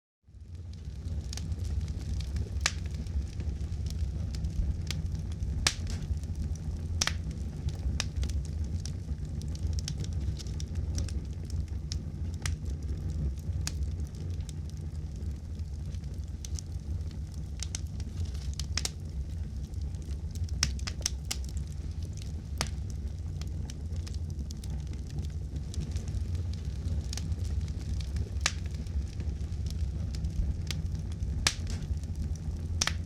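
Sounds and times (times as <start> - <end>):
campfire flames rumbling: 0.3 - 33.0
fire crackling and popping: 0.3 - 33.0.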